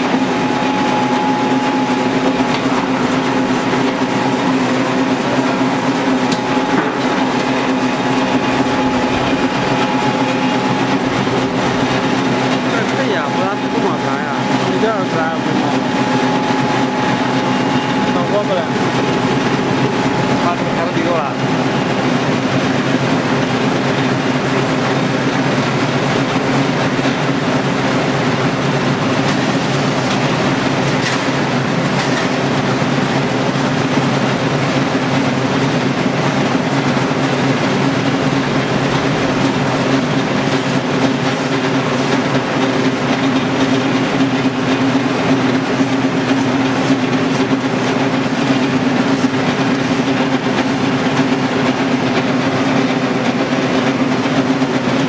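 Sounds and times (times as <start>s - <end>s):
oil press mechanical drone: 0.0s - 55.0s.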